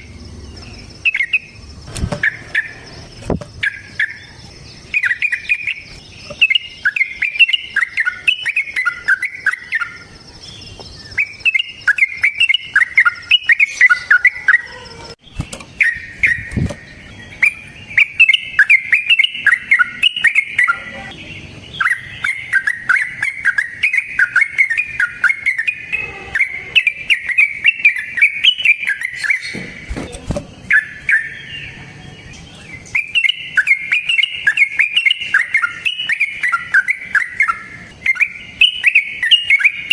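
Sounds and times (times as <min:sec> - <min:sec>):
bulbul bubbling chatter song: 0:00.0 - 0:10.4, 0:11.0 - 0:15.0, 0:15.8 - 0:29.6, 0:30.6 - 0:39.9.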